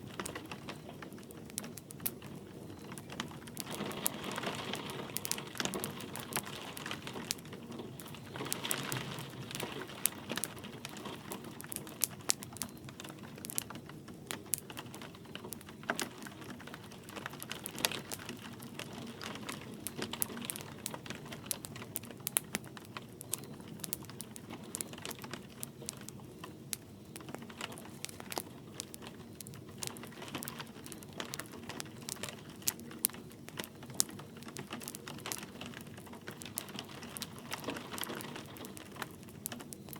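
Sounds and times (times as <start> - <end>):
light rain hiss: 0.0 - 39.9
wood fire crackling and popping: 0.0 - 39.9.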